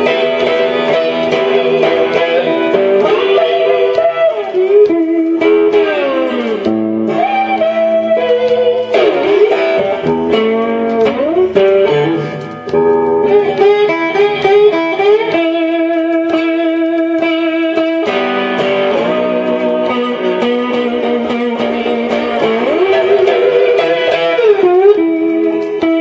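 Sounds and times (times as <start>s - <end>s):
slide electric guitar solo: 0.0s - 26.0s.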